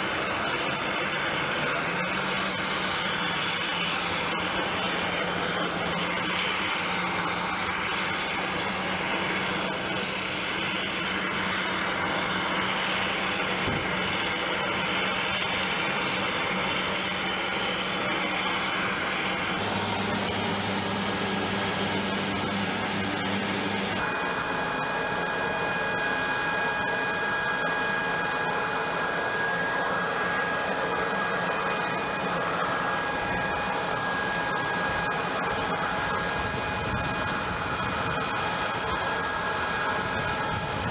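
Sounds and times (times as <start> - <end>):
aircraft turbine whine: 0.0 - 40.9.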